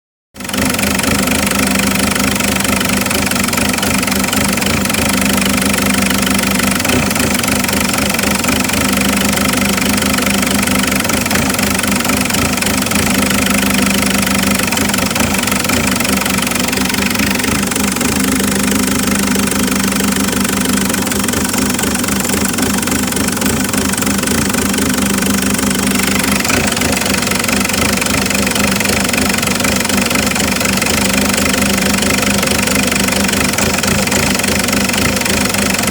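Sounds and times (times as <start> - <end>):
diesel engine idling roughly: 0.4 - 35.9.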